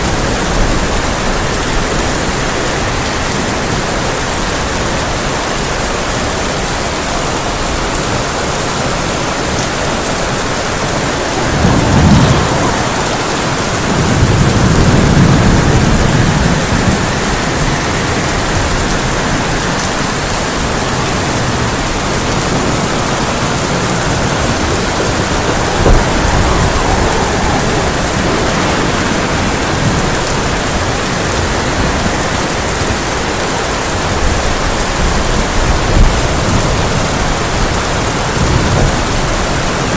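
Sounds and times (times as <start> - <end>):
heavy rain on a tin roof: 0.0 - 39.9
thunder rumbling: 0.0 - 39.9.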